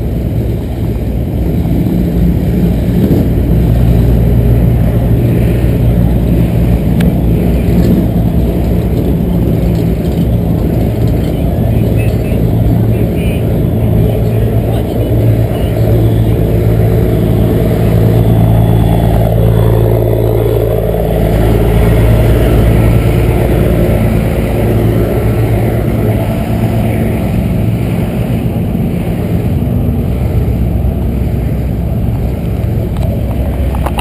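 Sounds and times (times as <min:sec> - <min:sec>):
large vehicle engine droning: 0:00.0 - 0:34.0.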